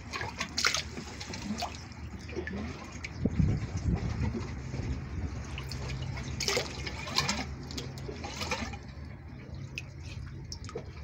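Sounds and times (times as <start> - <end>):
water gurgling into tank: 0.0 - 11.0.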